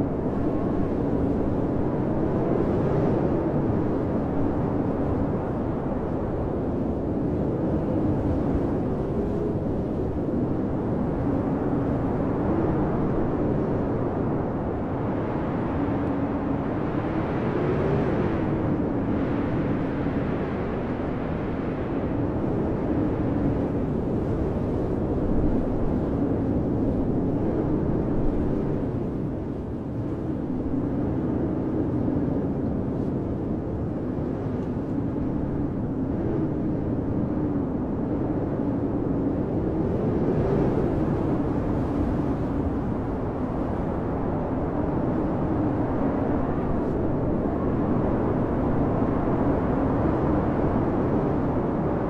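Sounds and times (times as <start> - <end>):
blizzard wind moaning: 0.0 - 52.0.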